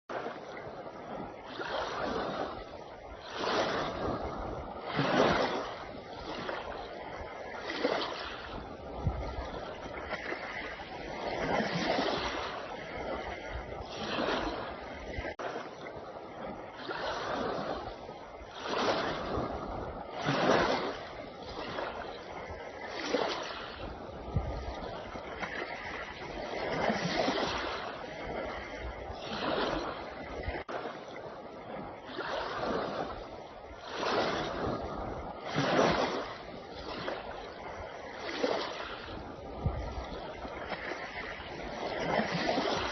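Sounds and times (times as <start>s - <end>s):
small waves washing against shore: 0.0s - 42.9s.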